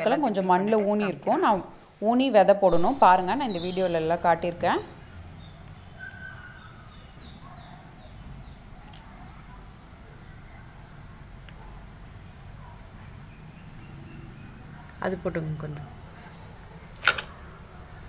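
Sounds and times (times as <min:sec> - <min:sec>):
high-pitched insect drone: 0:00.0 - 0:16.3.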